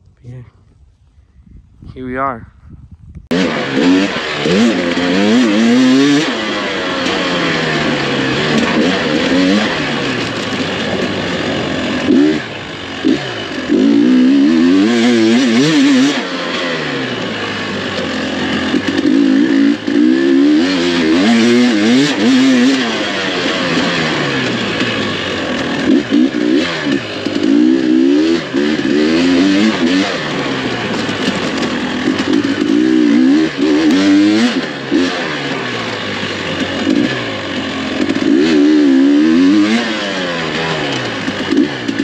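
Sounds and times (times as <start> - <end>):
dirt bike engine revving: 3.3 - 42.0.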